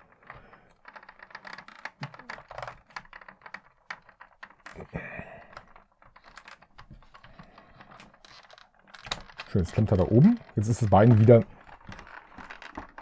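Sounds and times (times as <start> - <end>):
plastic toy clicks and scraping: 0.0 - 13.0.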